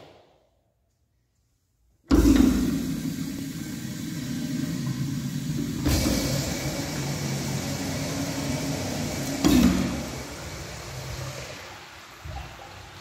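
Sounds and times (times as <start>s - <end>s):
urinal flushing: 2.1s - 13.0s.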